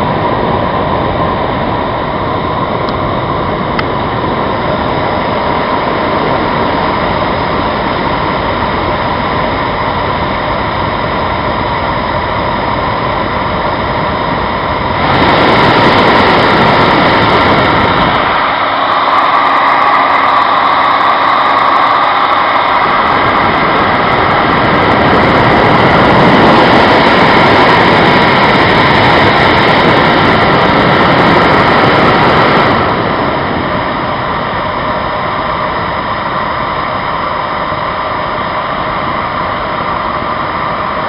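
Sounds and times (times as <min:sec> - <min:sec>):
hair dryer whirring: 0:00.0 - 0:41.0.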